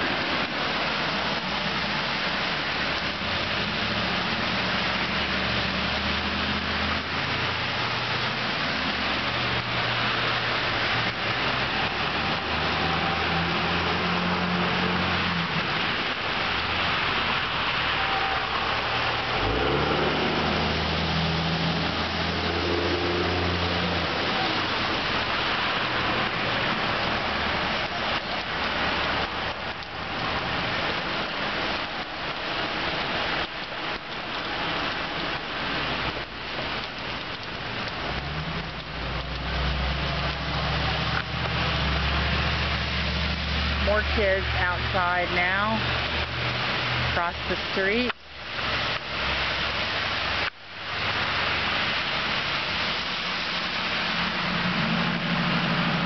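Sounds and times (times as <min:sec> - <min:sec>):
cars driving through water: 0:00.0 - 0:56.0
steady rain falling: 0:00.0 - 0:56.0.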